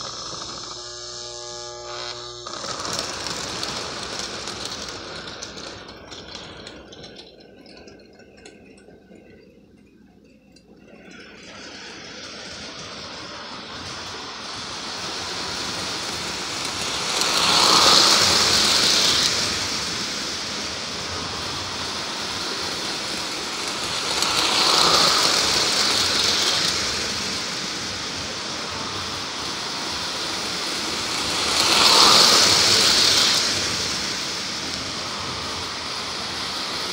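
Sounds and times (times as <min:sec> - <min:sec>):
toy train rolling on track: 0:00.0 - 0:36.9.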